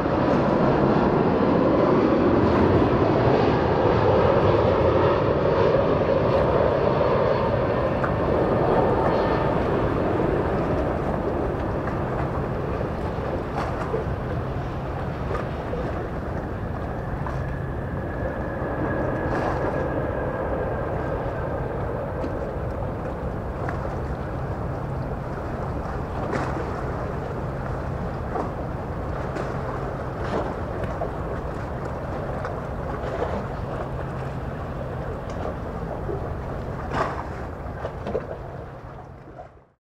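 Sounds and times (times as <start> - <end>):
airliner jet noise: 0.0 - 39.1
low engine hum: 0.0 - 39.8.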